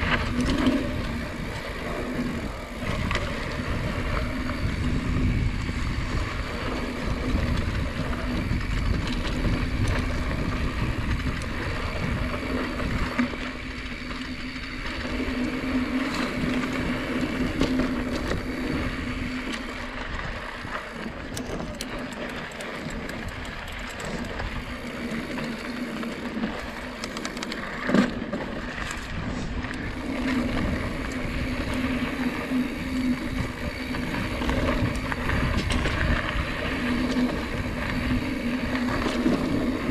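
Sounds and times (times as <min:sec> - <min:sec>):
bike rattling over bumps: 0:00.0 - 0:39.9
bike tyres rolling on dirt: 0:00.0 - 0:39.9.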